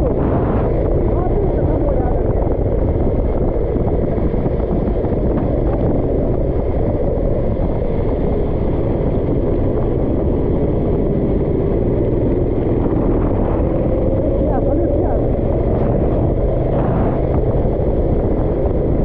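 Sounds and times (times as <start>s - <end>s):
kart engine running: 0.0s - 19.0s.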